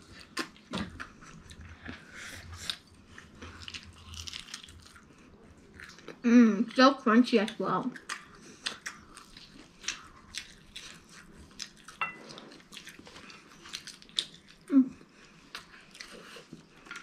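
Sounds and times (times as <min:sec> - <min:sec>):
crunchy chewing: 0:00.0 - 0:06.2, 0:08.0 - 0:17.0.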